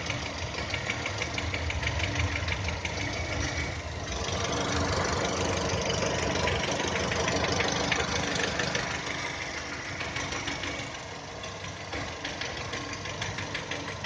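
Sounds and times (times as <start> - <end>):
engine idling with rapid knocking: 0.0 - 14.0.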